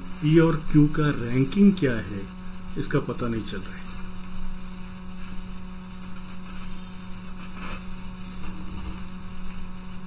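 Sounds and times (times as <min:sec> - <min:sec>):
electrical mains hum: 0:00.0 - 0:10.0
hiss and thin whine: 0:00.0 - 0:10.0.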